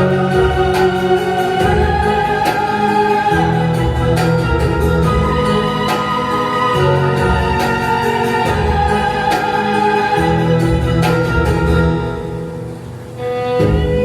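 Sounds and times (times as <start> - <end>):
orchestral music with choir-like chords: 0.0 - 14.0.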